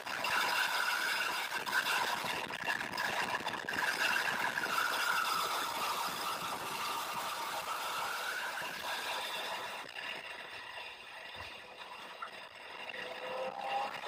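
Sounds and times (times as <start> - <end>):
car engine at high speed: 0.0 - 14.0
wind and road roar: 0.0 - 14.0.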